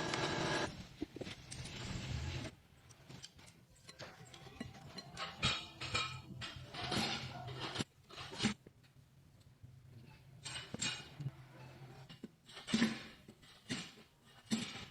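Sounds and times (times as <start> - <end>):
noise: 0.0 - 14.9.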